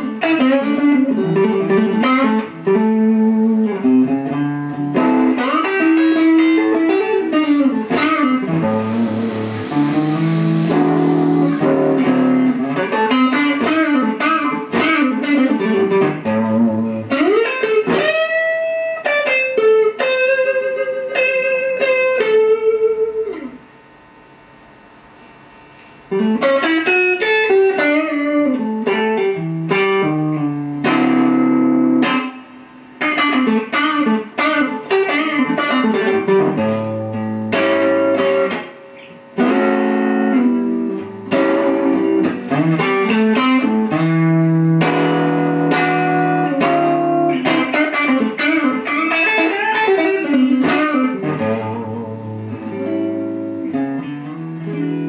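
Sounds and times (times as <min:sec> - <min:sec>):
electric guitar blues lead: 0:00.0 - 0:23.8, 0:25.8 - 0:55.0.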